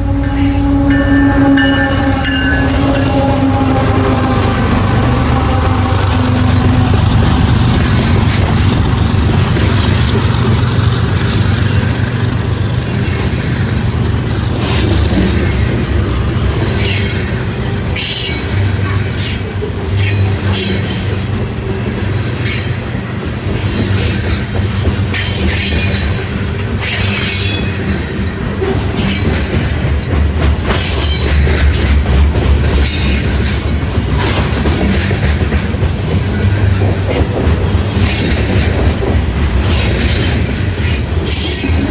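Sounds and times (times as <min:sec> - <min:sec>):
freight train rumble: 0:00.0 - 0:41.9
wheels squealing on rails: 0:00.0 - 0:41.9.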